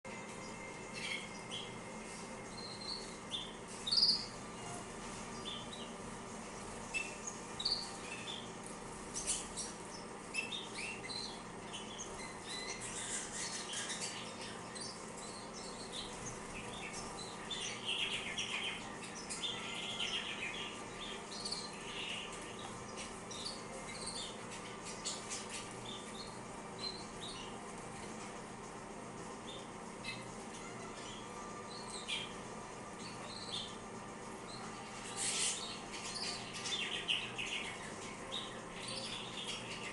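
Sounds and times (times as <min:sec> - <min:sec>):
canaries chirping: 0:00.0 - 0:39.9.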